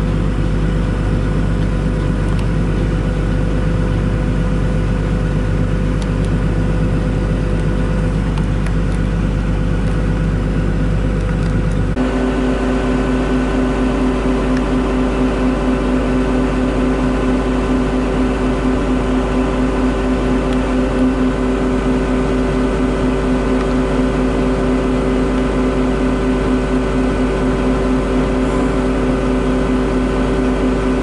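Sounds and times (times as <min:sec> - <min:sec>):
farm machinery droning: 0:00.0 - 0:31.0.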